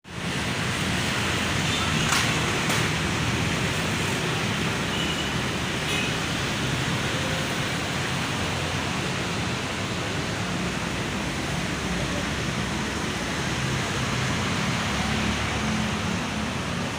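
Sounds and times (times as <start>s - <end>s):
heavy rain in strong wind: 0.1s - 16.9s.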